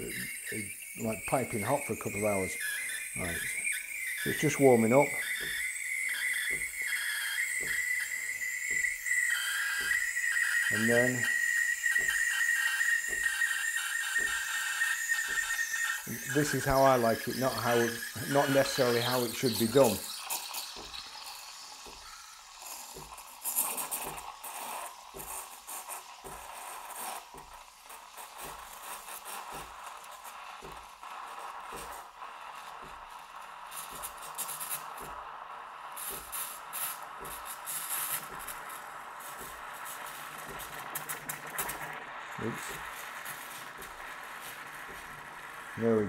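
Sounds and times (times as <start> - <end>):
steam hiss with crackles: 0.0 - 46.0
steam wand frothing milk: 0.0 - 46.0.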